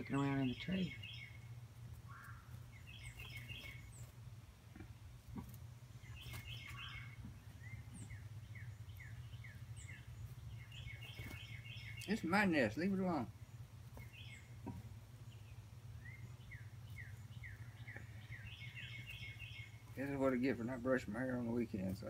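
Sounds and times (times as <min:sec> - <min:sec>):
songbirds chirping: 0:00.0 - 0:22.0
steady low hum: 0:00.0 - 0:22.0.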